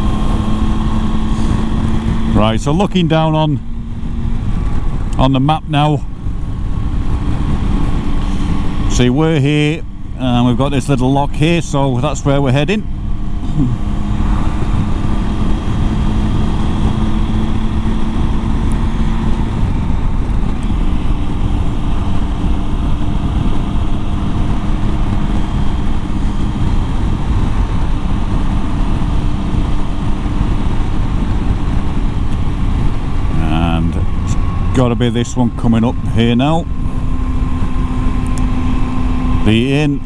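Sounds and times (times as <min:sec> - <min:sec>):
motorcycle engine running: 0:00.0 - 0:40.0
road rumble: 0:00.0 - 0:40.0
wind: 0:00.0 - 0:40.0.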